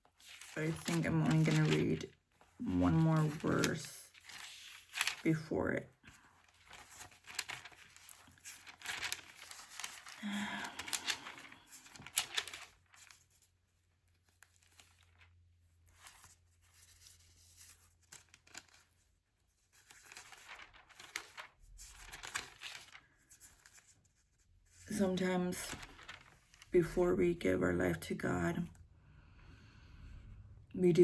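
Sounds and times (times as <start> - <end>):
book pages rustling: 0.0 - 27.0.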